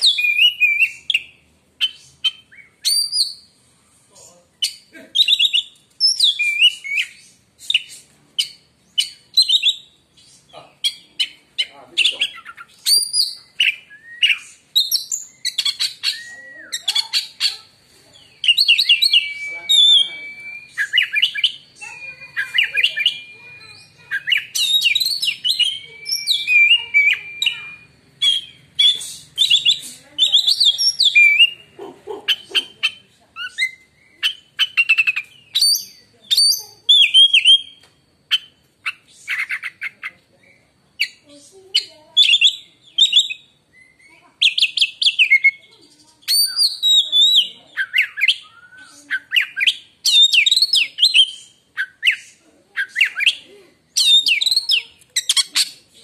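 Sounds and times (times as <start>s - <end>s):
songbird singing whistles and trills: 0.0s - 3.6s, 4.6s - 17.6s, 18.2s - 56.0s.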